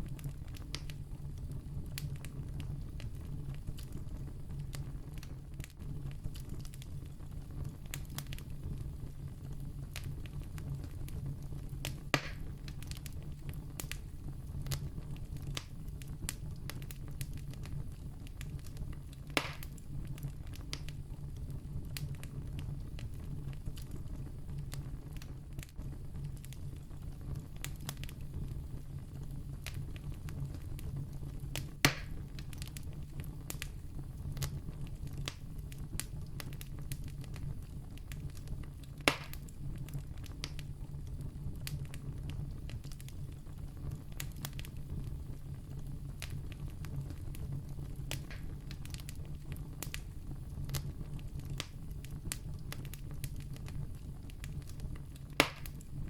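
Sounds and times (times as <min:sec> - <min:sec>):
campfire crackling: 0:00.0 - 0:56.0
fire popping: 0:00.0 - 0:56.0.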